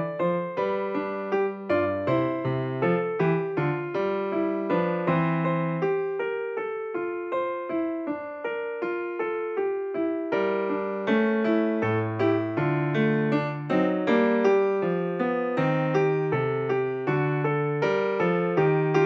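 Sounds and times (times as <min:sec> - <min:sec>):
solo keyboard tune: 0:00.0 - 0:19.0.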